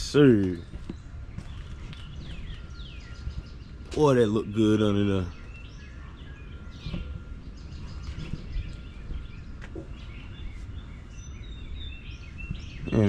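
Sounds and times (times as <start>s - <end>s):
low ambient rumble: 0.0s - 13.0s
small birds chirping: 0.0s - 13.0s.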